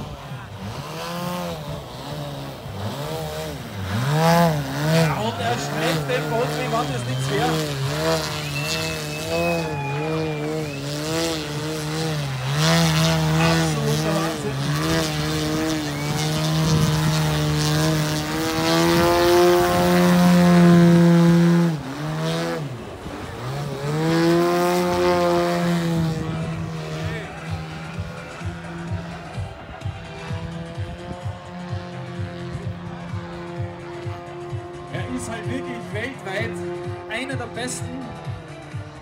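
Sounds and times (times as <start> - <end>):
model airplane engine and propeller: 0.0 - 39.0.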